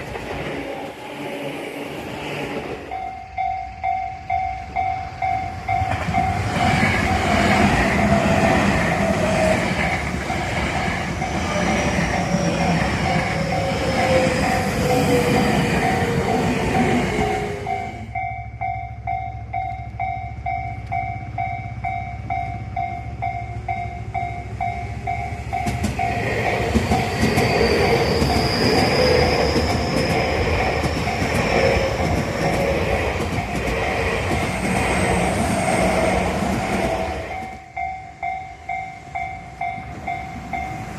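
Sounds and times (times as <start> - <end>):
electric train passing: 0.0 - 40.9.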